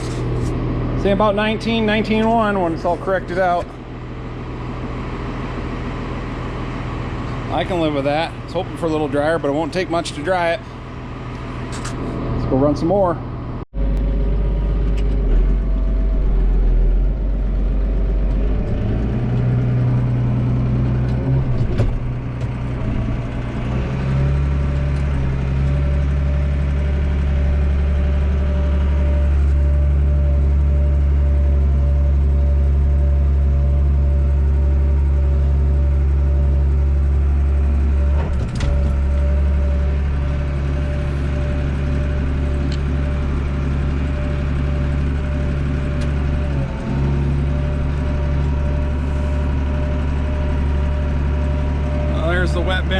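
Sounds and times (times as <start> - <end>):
combine harvester engine drone: 0.0 - 52.9.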